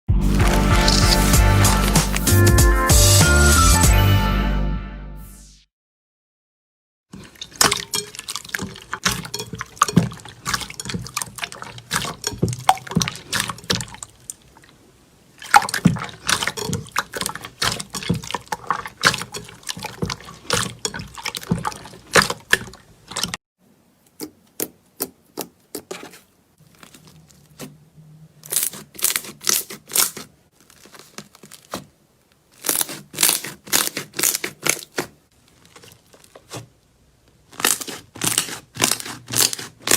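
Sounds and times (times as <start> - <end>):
slime squelching: 0.2 - 2.6, 7.1 - 23.4, 24.0 - 39.9.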